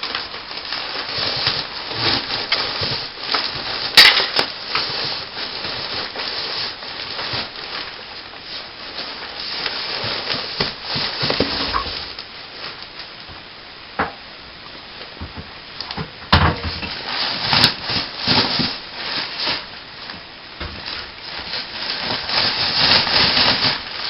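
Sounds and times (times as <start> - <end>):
ducting crackling and rustling: 0.0 - 13.5, 14.7 - 24.0.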